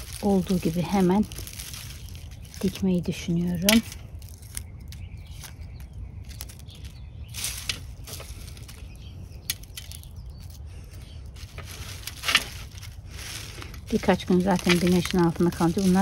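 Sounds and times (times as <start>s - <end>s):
dry leaves rustling and crackling: 0.0s - 16.0s.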